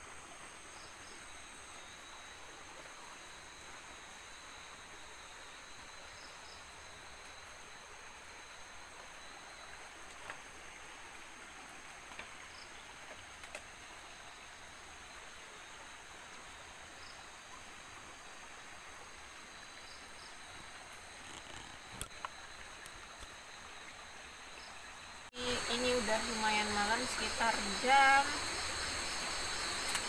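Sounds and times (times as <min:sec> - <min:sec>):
insects chirring: 0:00.0 - 0:30.0
soft hiss: 0:00.0 - 0:30.0.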